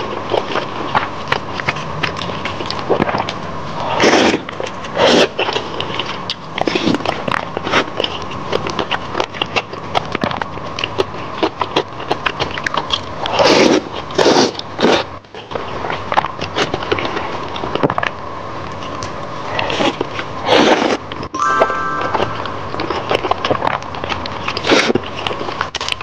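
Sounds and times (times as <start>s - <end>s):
wet chewing and mouth clicks: 0.0s - 21.3s.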